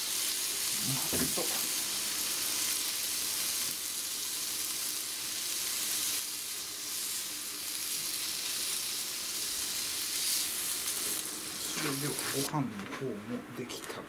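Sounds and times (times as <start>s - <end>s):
pork sizzling in a grill pan: 0.0s - 12.5s.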